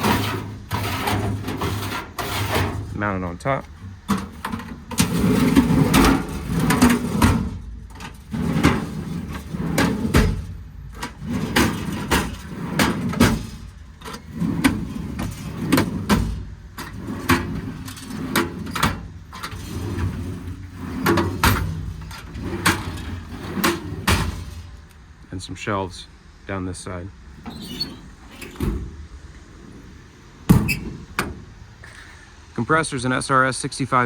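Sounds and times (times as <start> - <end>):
metal tool drawers sliding: 0.0 - 25.0, 27.3 - 31.6.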